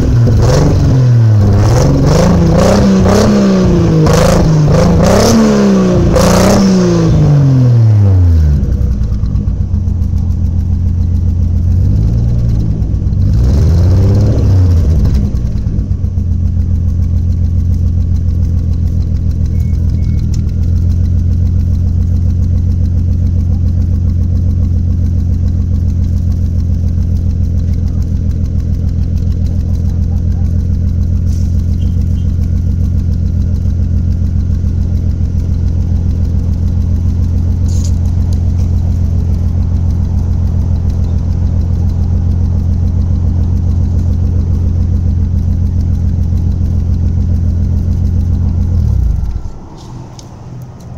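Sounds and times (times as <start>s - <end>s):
engine revs blipped: 0.0s - 50.9s
misfiring engine idling: 0.0s - 50.9s.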